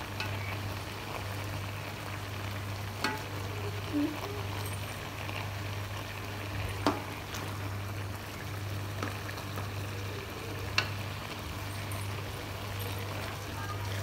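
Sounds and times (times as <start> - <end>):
water bubbling in a pot: 0.0 - 14.0.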